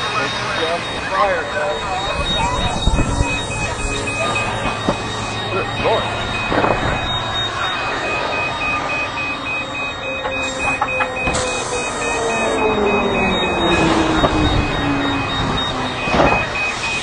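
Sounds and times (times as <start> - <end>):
low tone falling in pitch: 0.0 - 16.6
constant rushing noise: 0.0 - 17.0
rapid electronic alarm beeps: 0.0 - 17.0.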